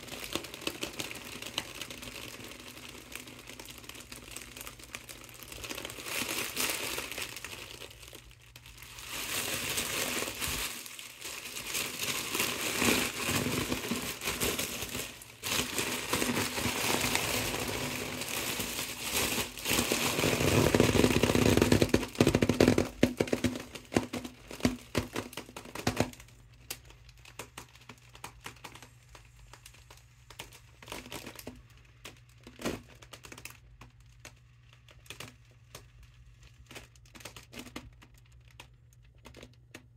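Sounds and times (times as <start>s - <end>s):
foil balloon crinkling: 0.0s - 39.9s.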